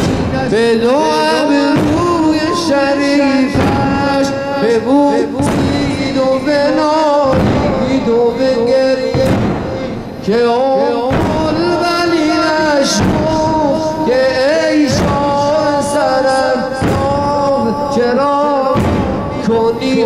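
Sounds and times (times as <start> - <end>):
heavy drum strokes: 0.0 - 20.0.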